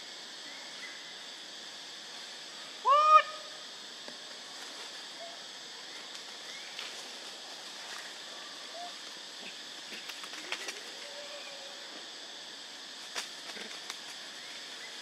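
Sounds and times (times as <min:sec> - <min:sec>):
high hiss: 0:00.0 - 0:15.0.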